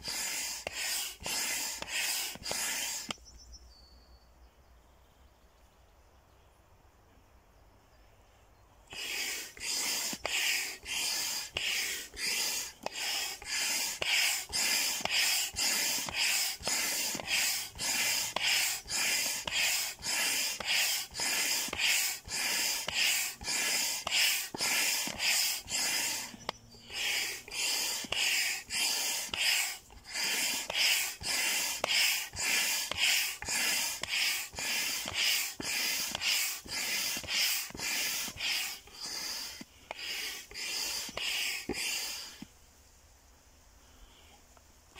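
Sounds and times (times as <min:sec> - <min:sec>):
hand pump hissing: 0:00.0 - 0:03.2, 0:08.9 - 0:42.5.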